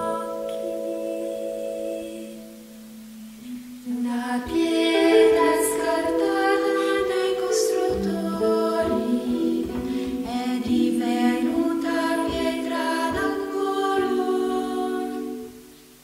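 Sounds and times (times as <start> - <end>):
choir singing slow held notes: 0.0 - 16.0.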